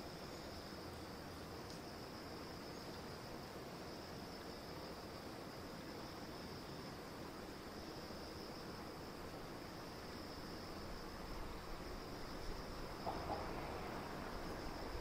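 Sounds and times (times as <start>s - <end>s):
faint hiss: 0.0s - 15.0s
insects chirring: 0.0s - 15.0s.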